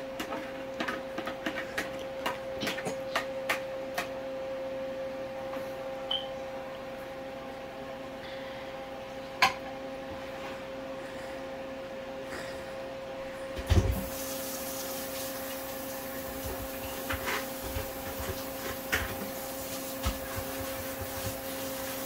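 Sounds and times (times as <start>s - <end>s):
kitchen hum: 0.0s - 22.0s.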